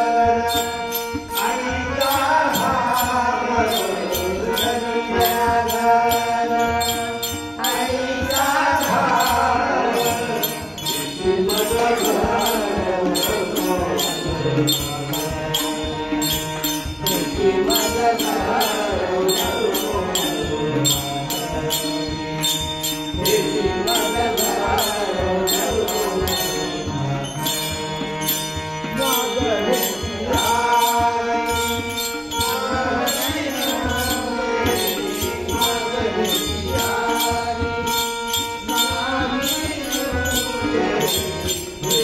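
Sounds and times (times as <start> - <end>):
held accompanying notes: 0.0 - 42.0
man singing devotional song: 0.0 - 42.0
small hand cymbals striking: 0.3 - 42.0.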